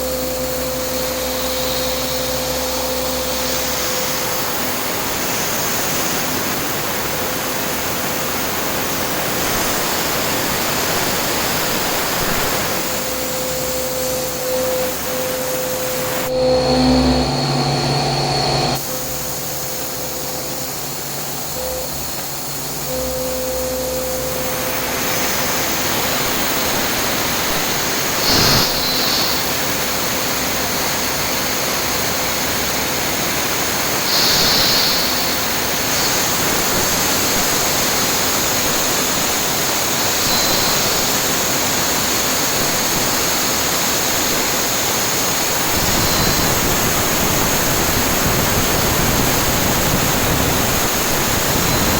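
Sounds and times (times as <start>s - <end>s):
high machine whine: 0.0s - 51.9s
machining hiss: 0.0s - 51.9s.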